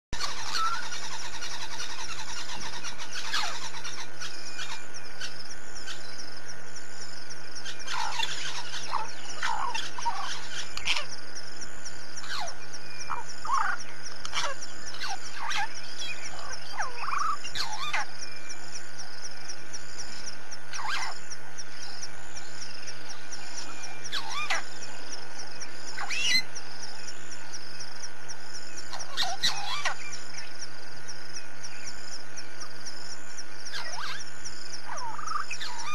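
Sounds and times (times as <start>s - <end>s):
birds chirping and calling: 0.2s - 35.9s
high-pitched insect buzz: 0.2s - 35.9s
low electrical hum: 0.2s - 35.9s.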